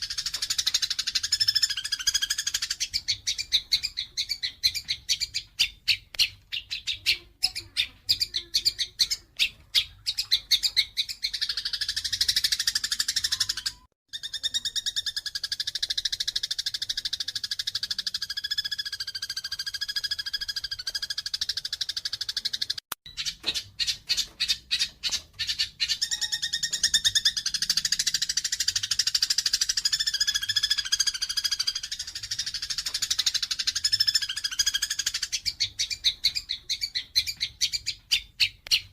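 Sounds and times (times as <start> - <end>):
sparrows chirping and chattering: 0.0 - 38.9.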